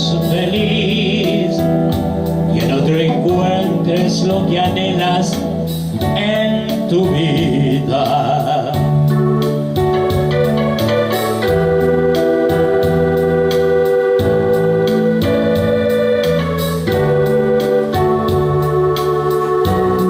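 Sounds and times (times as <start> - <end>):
bass line: 0.0 - 20.0
organ-toned keyboard chords: 0.0 - 20.0.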